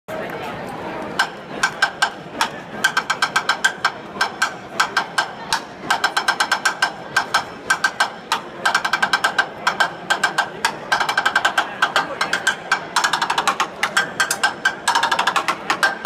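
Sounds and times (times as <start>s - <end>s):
drumsticks beating a hard surface: 1.1s - 16.0s.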